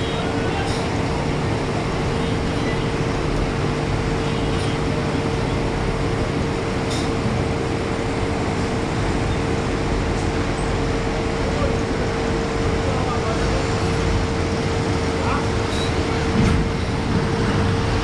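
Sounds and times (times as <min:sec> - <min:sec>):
ferry engine droning: 0:00.0 - 0:18.0.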